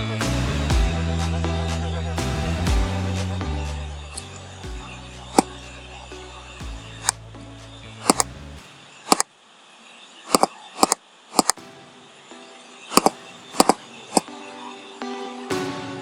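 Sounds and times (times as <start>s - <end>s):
quiet background music: 0.0s - 9.2s, 11.5s - 16.0s.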